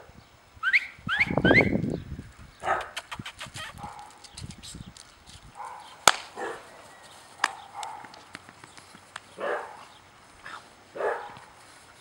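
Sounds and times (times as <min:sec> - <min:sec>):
puppy paws on gravel: 0:02.2 - 0:12.0.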